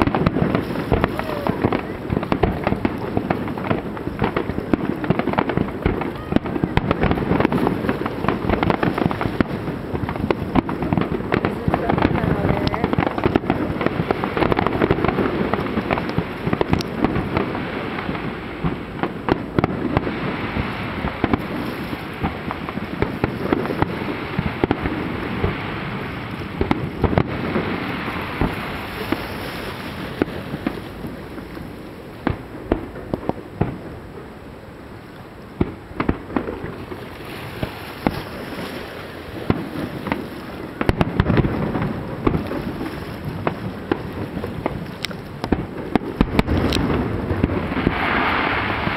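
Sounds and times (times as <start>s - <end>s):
fireworks bursting with bangs: 0.0s - 48.9s
fireworks crackling: 0.0s - 48.9s.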